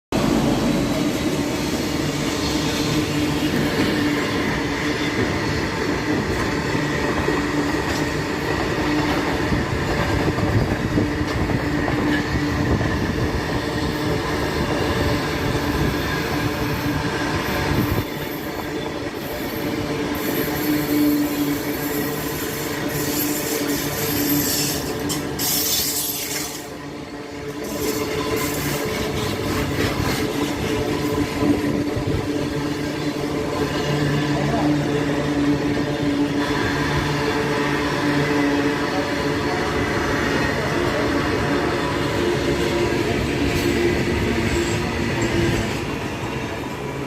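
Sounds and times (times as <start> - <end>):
train wheels rumbling: 0.1 - 47.0.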